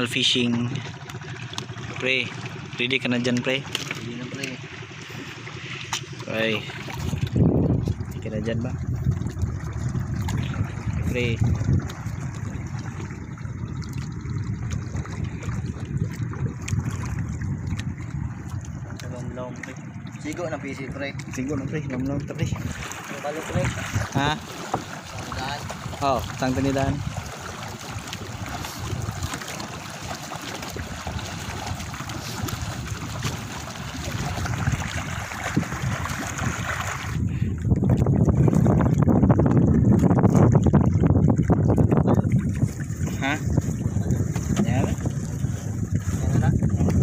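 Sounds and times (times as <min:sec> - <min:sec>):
low rumble: 0:00.0 - 0:27.3, 0:30.8 - 0:47.0
water lapping around boat: 0:00.0 - 0:47.0.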